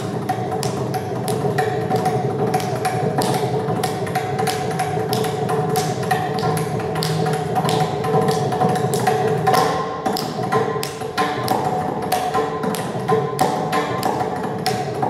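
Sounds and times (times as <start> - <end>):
mridangam drumming: 0.0 - 15.0.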